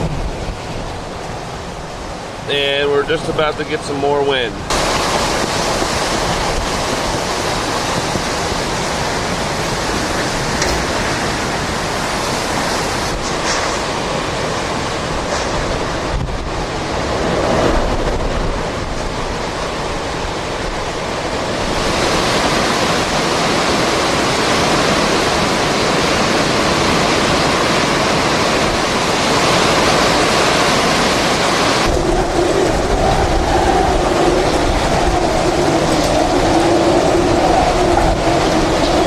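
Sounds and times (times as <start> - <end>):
wind noise on microphone: 0.0 - 2.7, 4.6 - 39.0
strong wind blowing: 0.0 - 39.0.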